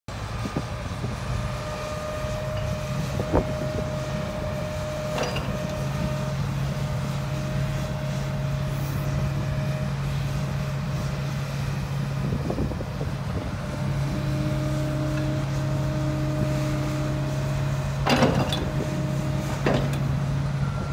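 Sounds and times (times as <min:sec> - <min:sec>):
excavator diesel engine running: 0:00.1 - 0:20.9
hydraulic whine: 0:00.1 - 0:20.9.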